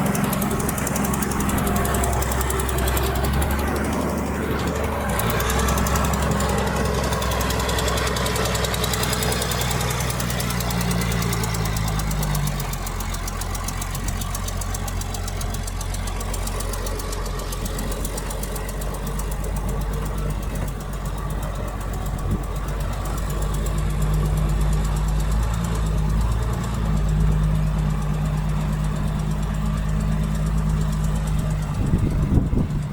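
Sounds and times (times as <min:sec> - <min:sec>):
heavy diesel engine under load: 0:00.0 - 0:32.9.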